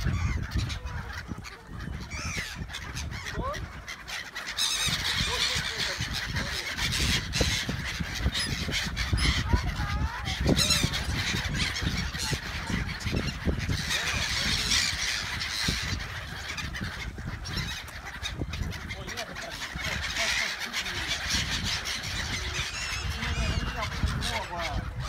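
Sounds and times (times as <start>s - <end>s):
gulls calling: 0.0s - 25.0s
wind rumbling on microphone: 0.0s - 25.0s.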